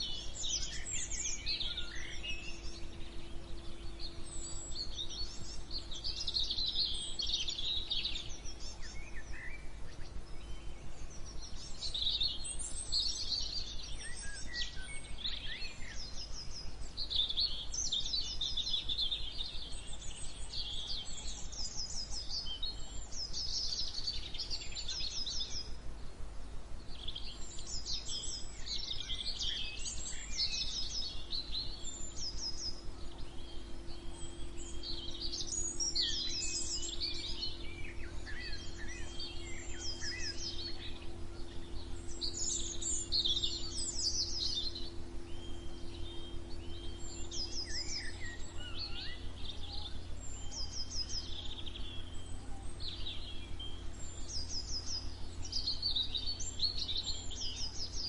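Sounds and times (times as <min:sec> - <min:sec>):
songbirds singing and chirping: 0:00.0 - 0:58.0
steady low hum: 0:00.0 - 0:58.0.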